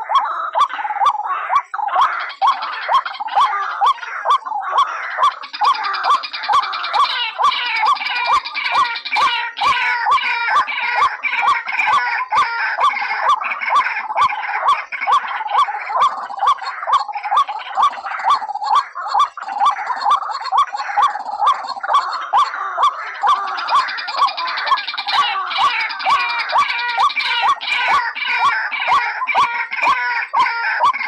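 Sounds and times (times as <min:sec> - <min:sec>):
harsh repeated bird calls: 0:00.0 - 0:31.0.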